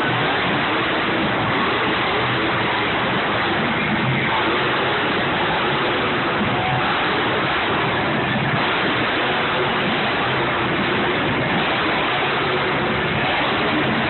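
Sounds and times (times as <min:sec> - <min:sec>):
monster truck engines roaring: 0:00.0 - 0:14.0.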